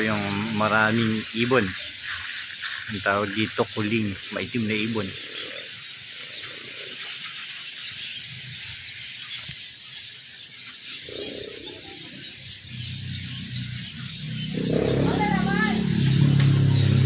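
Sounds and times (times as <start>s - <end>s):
starlings twittering: 0.0s - 17.0s.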